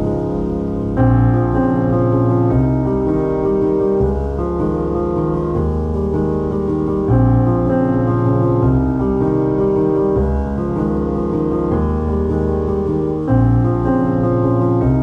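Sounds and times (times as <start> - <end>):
piano music with sustained chords: 0.0 - 15.0.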